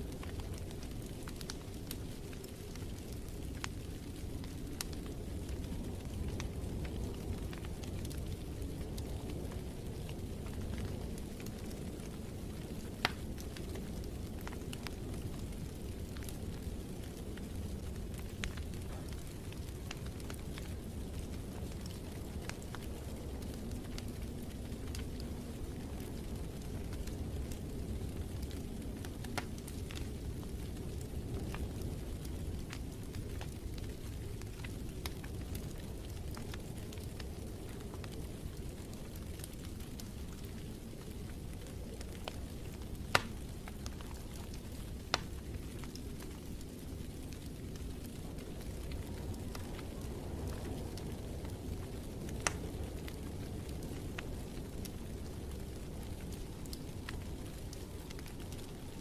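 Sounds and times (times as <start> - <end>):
fire pops and snaps: 0.0 - 59.0
low rumble of flames: 0.0 - 59.0.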